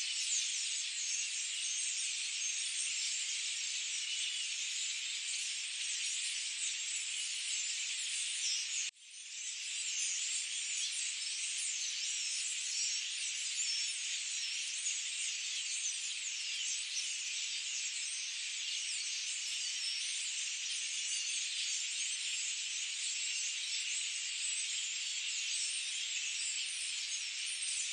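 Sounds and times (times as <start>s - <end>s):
small birds chirping and twittering: 0.0s - 27.9s.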